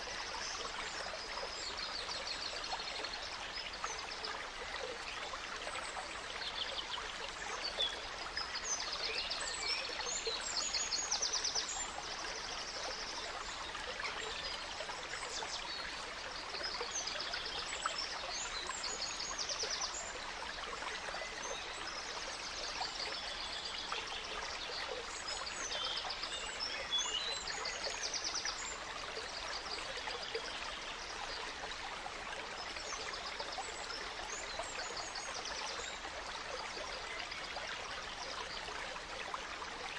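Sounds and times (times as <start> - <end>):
gentle stream running: 0.0 - 39.9.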